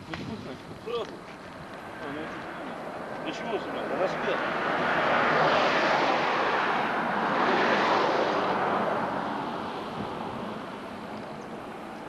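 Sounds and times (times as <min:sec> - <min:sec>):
passing engine rushing: 0:02.0 - 0:12.0.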